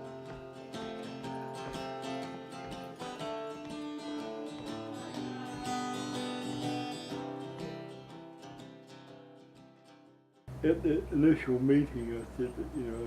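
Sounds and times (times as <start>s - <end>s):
acoustic guitar strummed and plucked: 0.0s - 11.4s.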